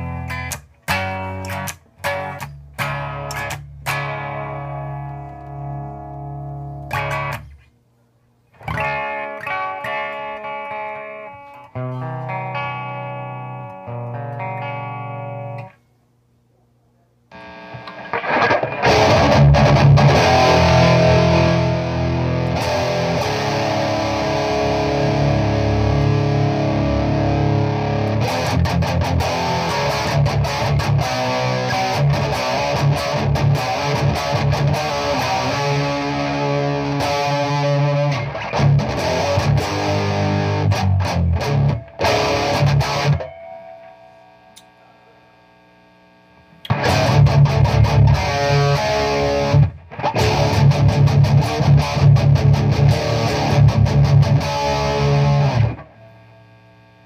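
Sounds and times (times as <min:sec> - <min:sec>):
electric guitar chords ringing: 0:00.0 - 0:07.5, 0:08.6 - 0:15.8, 0:17.3 - 0:57.0
distorted electric guitar playing: 0:00.0 - 0:07.6, 0:08.6 - 0:15.8, 0:17.3 - 0:57.0.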